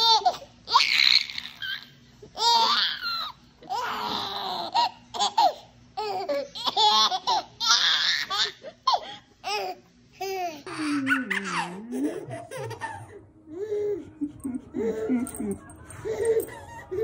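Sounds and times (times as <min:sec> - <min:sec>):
baby laughing: 0:00.0 - 0:17.0.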